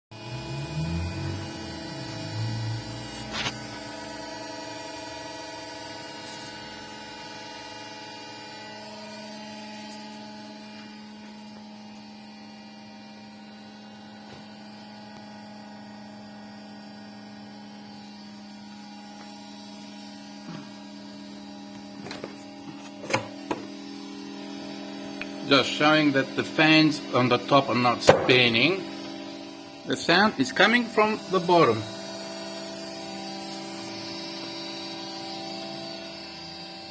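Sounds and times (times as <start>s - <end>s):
electrical hum of printer: 0.2s - 36.9s.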